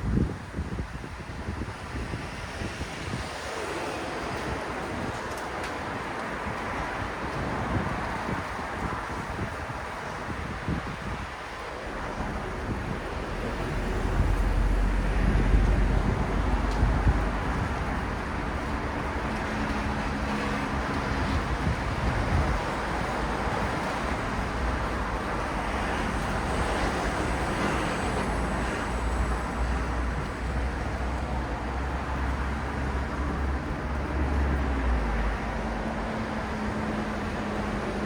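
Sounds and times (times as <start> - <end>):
city road traffic: 0.0 - 38.0.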